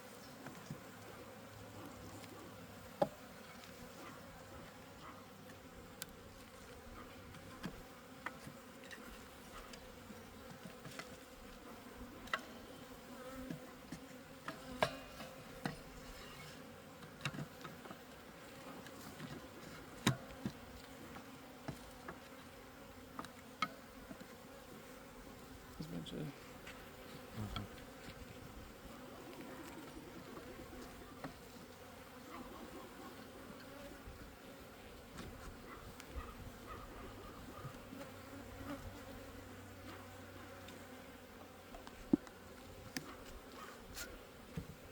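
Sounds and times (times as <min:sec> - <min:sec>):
honeybees buzzing: 0:00.0 - 0:44.9.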